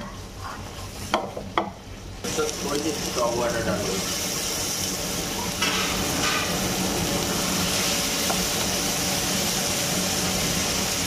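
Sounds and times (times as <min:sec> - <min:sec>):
curry sizzling in frying pan: 0:00.0 - 0:11.0.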